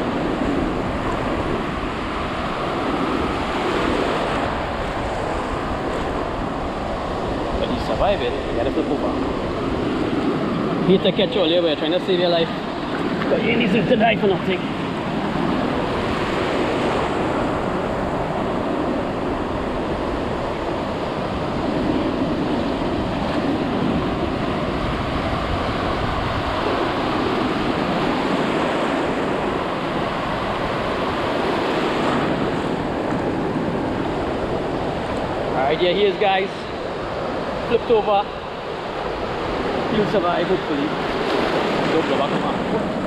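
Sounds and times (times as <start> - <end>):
waves breaking: 0.0 - 43.0
wind buffeting microphone: 0.0 - 43.0.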